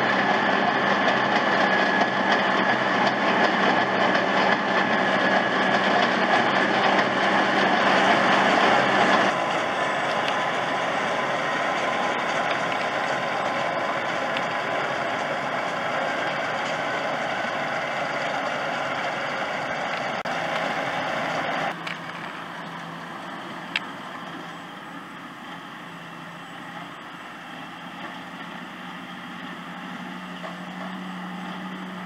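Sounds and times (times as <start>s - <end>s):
potato harvester machinery: 0.0s - 32.0s
tractor engine running: 0.0s - 32.0s.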